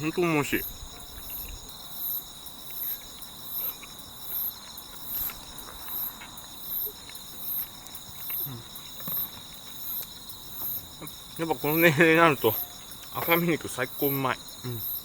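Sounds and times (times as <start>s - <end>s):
insects trilling in chorus: 0.0s - 15.0s
very high pulsed insect call: 0.0s - 15.0s.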